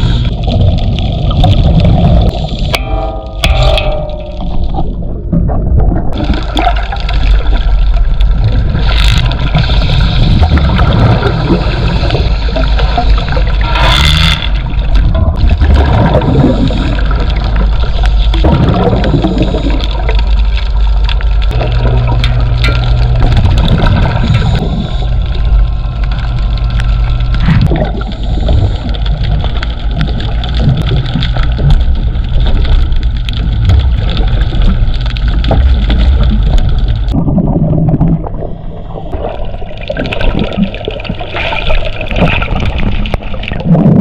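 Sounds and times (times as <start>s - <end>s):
rushes of bubbles: 0.0s - 44.0s
steady low rumble: 0.0s - 44.0s
underwater gurgling and bubbling: 0.0s - 44.0s.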